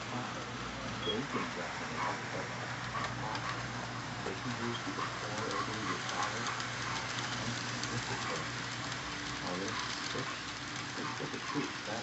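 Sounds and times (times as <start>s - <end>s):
model train motors running: 0.0s - 12.0s
steady low hum: 0.0s - 12.0s
train wheels clicking on track: 0.0s - 12.0s.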